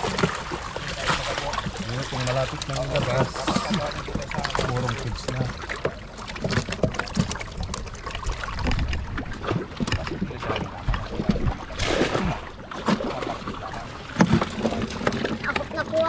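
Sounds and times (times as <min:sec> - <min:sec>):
pond water splashing and sloshing: 0:00.0 - 0:16.0.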